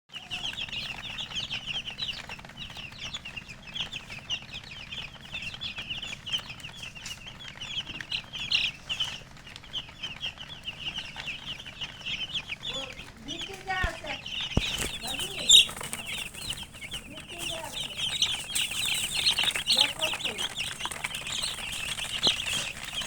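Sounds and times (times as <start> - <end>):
chicks peeping: 0.1 - 23.0.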